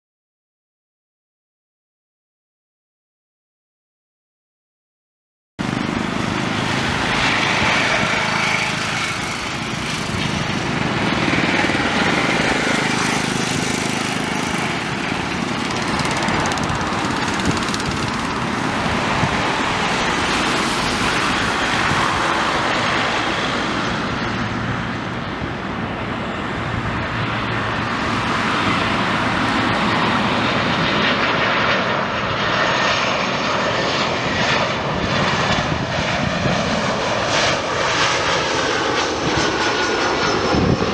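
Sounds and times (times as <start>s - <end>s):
jet engines rushing: 5.6s - 40.9s.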